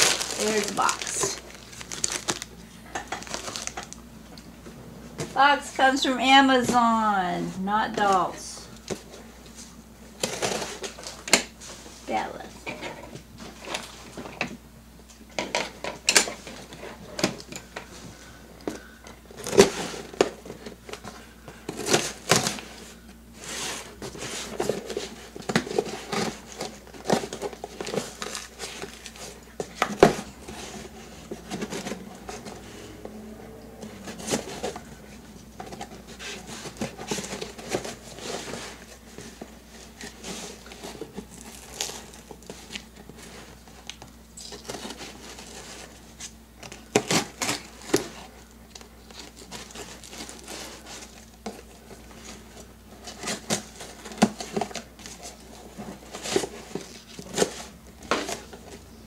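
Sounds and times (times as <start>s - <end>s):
paper and cardboard rustling: 0.0s - 4.0s, 5.2s - 14.4s, 16.3s - 59.0s.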